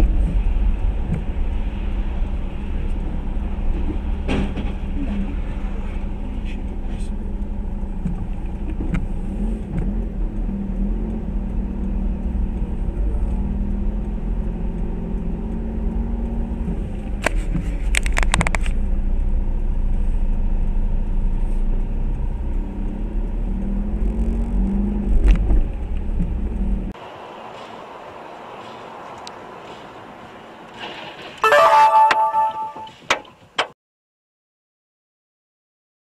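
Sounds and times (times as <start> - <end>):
car road noise on wet road: 0.0 - 33.7.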